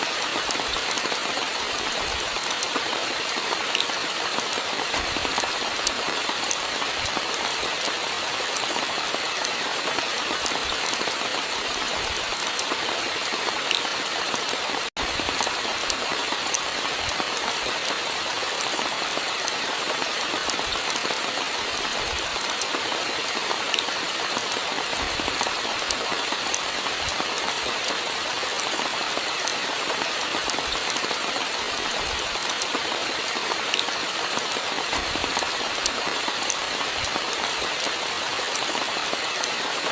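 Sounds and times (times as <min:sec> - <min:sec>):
sharp ticks of raindrops: 0:00.0 - 0:39.9
steady rainfall: 0:00.0 - 0:39.9.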